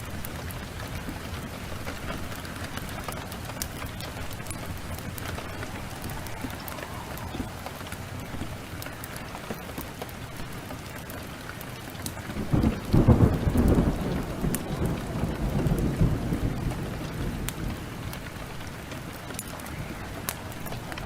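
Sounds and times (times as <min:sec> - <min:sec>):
thunder rolling: 0:00.0 - 0:09.6, 0:12.3 - 0:21.0
heavy rain: 0:00.0 - 0:21.0
sharp crackles: 0:00.0 - 0:21.0.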